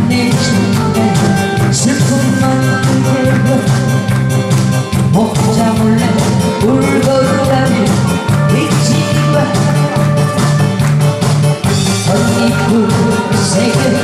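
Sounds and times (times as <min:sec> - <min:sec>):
woman singing into microphone: 0:00.0 - 0:04.0, 0:05.1 - 0:10.7, 0:12.0 - 0:14.0
backing track with steady beat: 0:00.0 - 0:14.0.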